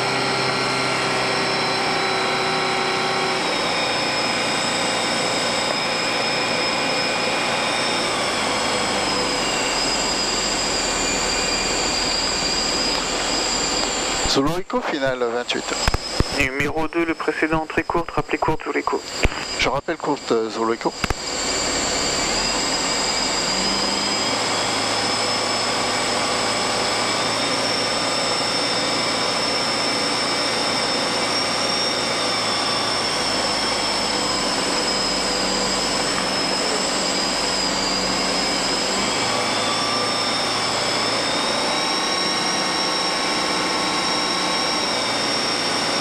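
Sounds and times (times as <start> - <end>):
aircraft engine and propeller: 0.0 - 46.0.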